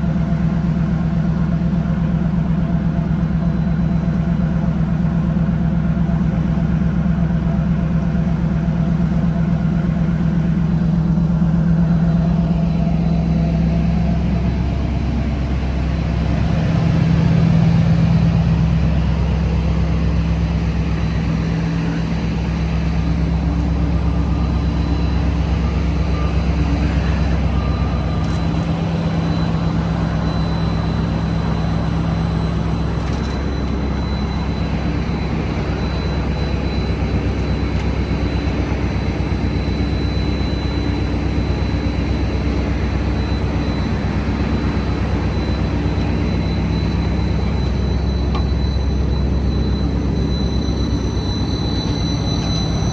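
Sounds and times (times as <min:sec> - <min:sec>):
diesel engine drone: 0:00.0 - 0:52.9
faint high whine: 0:02.2 - 0:52.9.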